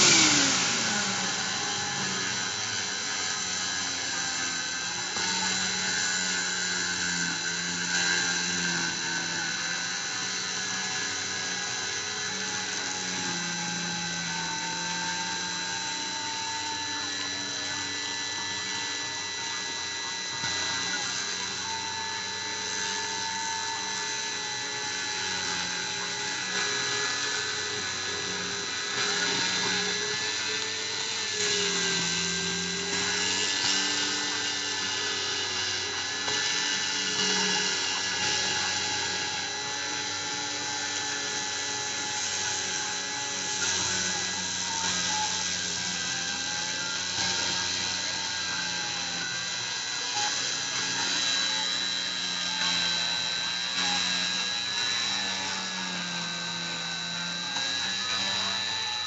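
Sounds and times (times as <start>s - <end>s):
rotary tool high whine: 0.0s - 59.0s
stepper motors humming: 0.0s - 59.0s.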